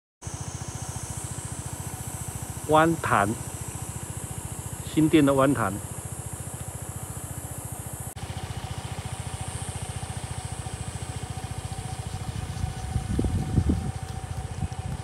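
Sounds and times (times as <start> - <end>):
insects buzzing: 0.2 - 15.0
scooter engine idling: 0.2 - 15.0.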